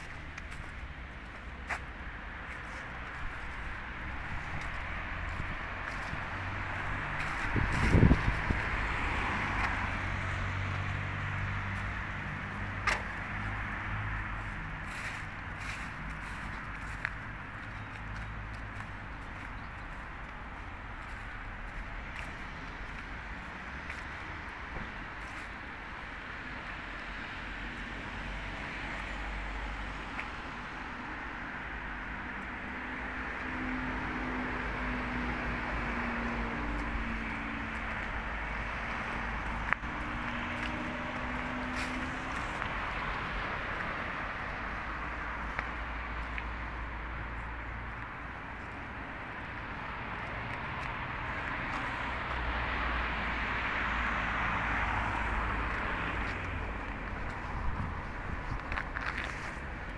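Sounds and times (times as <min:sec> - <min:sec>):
distant road traffic: 0:00.0 - 0:59.9.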